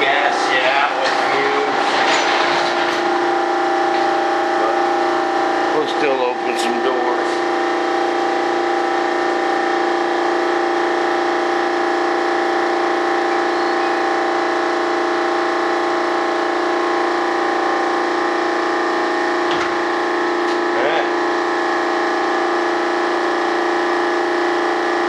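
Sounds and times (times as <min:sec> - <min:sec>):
machine motor drone: 0:00.0 - 0:25.0.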